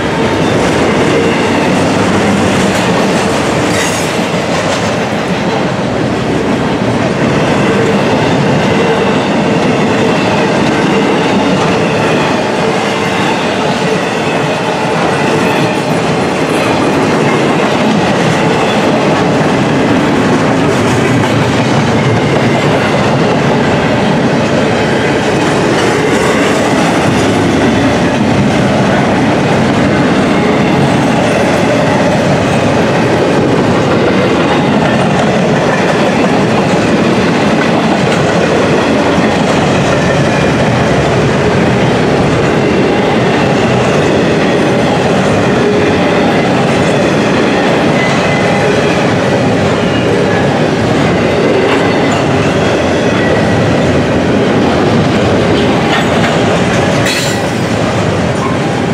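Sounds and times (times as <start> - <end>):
steel train wheels rolling on rails: 0.0 - 58.9.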